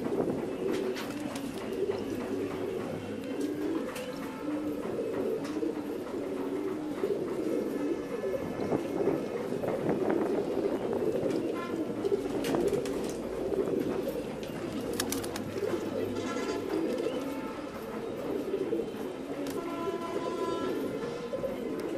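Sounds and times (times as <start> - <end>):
pigeons cooing: 0.0 - 21.9.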